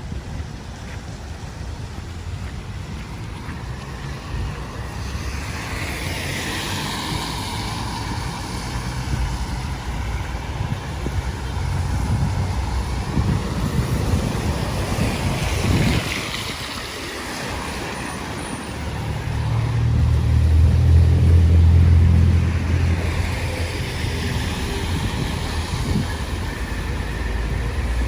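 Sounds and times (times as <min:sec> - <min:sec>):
large vehicle engine humming: 0:00.0 - 0:28.0
vehicle passing: 0:02.2 - 0:28.0.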